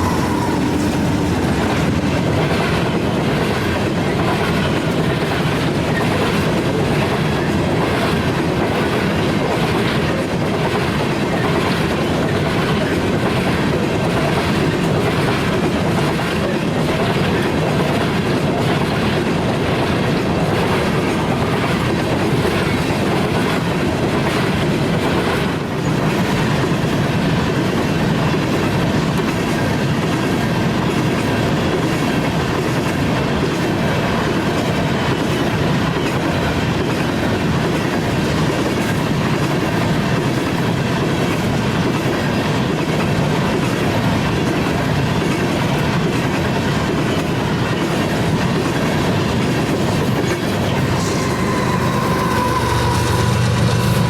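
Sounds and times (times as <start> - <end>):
train wheels clattering: 0.0 - 54.0.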